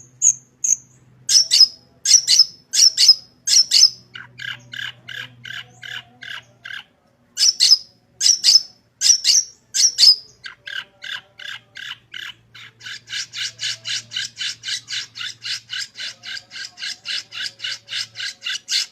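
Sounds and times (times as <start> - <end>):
shrike squawking and chattering: 0.2 - 18.9.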